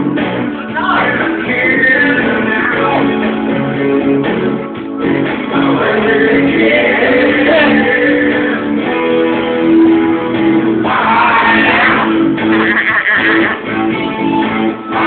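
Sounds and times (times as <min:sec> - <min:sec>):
song with guitar playing: 0:00.0 - 0:15.0.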